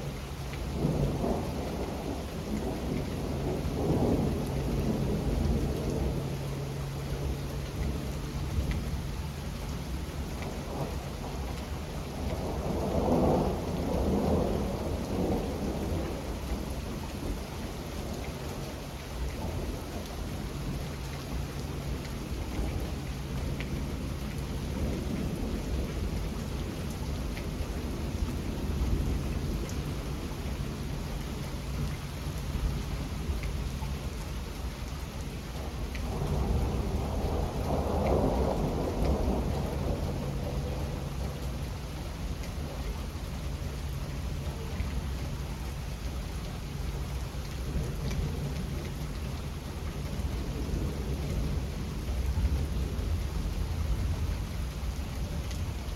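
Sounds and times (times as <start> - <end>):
steady rain: 0.0 - 55.9
thunder rumbling: 0.0 - 55.9.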